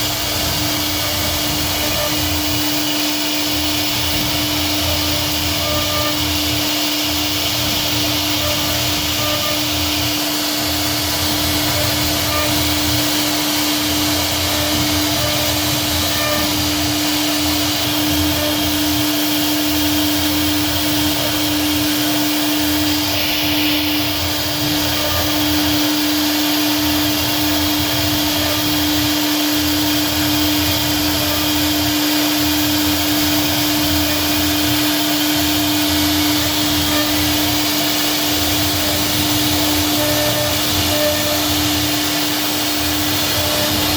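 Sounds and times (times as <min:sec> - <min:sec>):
router machine whining: 0:00.0 - 0:43.9.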